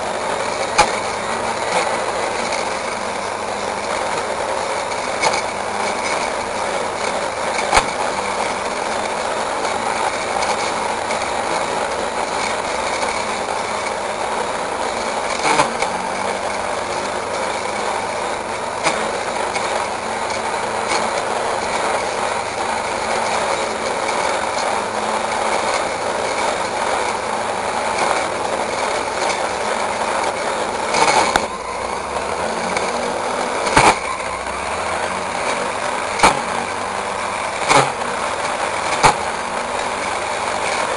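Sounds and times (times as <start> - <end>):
blade cutting weeds and grass: 0.0 - 40.9
brush cutter running: 0.0 - 40.9.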